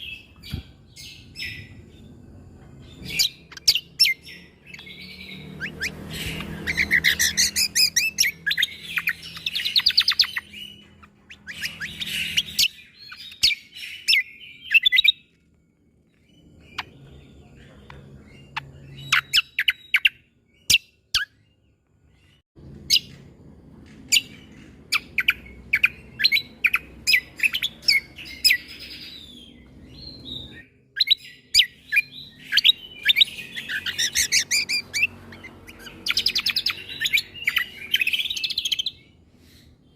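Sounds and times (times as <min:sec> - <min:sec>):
bird song with chattering trills: 0:00.0 - 0:39.9.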